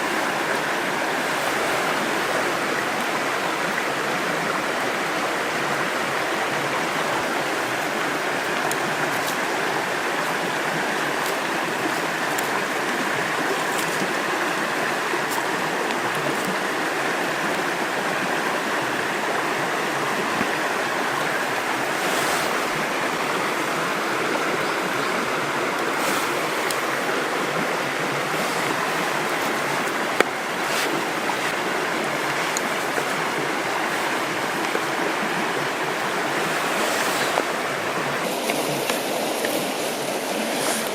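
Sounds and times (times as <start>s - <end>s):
river water running: 0.0s - 40.9s.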